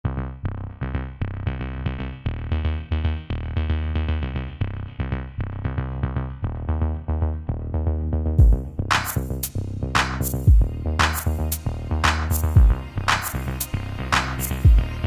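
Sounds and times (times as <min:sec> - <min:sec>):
electronic music with heavy bass: 0:00.1 - 0:15.0.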